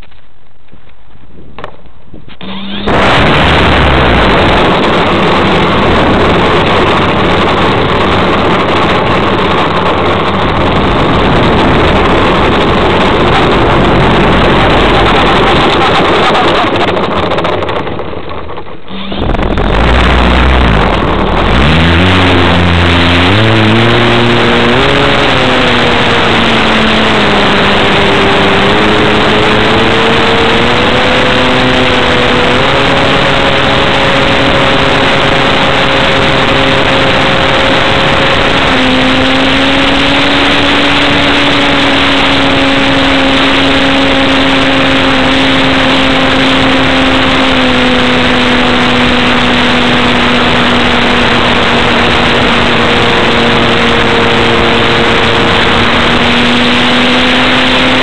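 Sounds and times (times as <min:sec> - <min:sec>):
wind rush: 0:00.0 - 0:58.0
model plane motor and propeller: 0:01.6 - 0:58.0.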